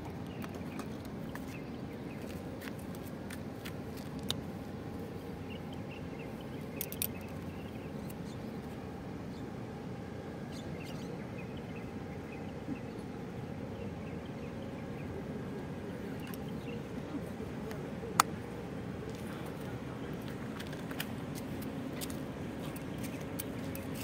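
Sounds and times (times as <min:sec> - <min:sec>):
faint hum: 0:00.0 - 0:24.0
steady low rumble: 0:00.0 - 0:24.0.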